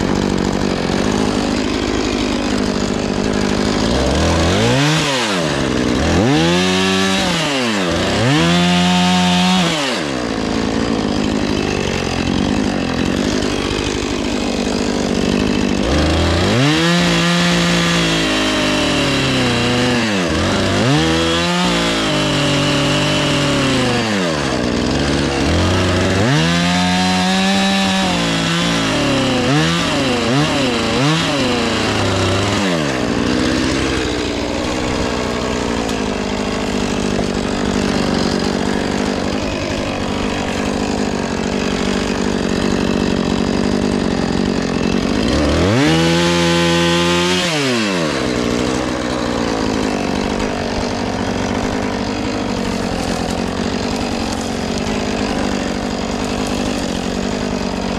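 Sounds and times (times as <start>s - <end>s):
chainsaw cutting wood: 0.0s - 57.9s
chainsaw revving: 0.0s - 57.9s.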